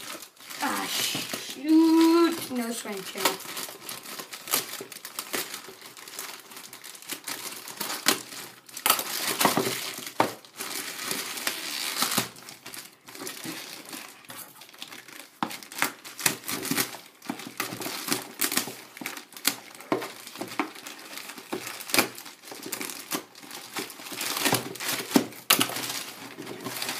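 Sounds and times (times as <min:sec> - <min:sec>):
paper and plastic wrap crumpling: 0:00.0 - 0:26.9.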